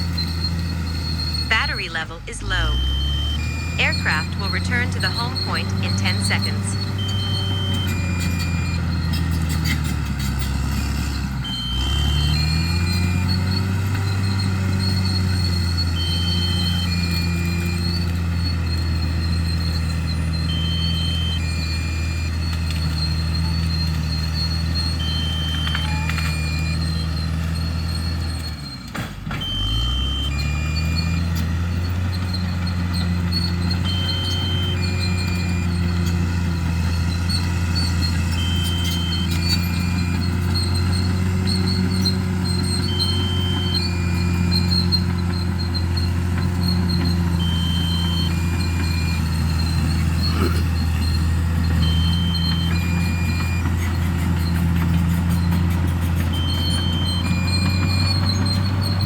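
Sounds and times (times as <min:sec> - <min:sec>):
diesel engine running under load: 0:00.0 - 0:59.0
two-tone electronic beeps: 0:01.1 - 0:09.6, 0:14.8 - 0:28.3, 0:29.4 - 0:31.5, 0:32.8 - 0:59.0.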